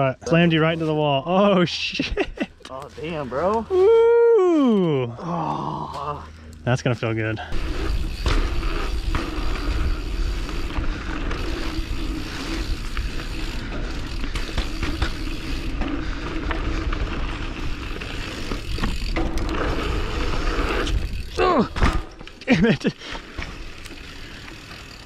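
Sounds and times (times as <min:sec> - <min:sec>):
bike chain and frame rattling: 0:00.2 - 0:05.0, 0:06.8 - 0:25.0
bike tyres rolling over dirt: 0:00.3 - 0:05.0, 0:06.8 - 0:25.0.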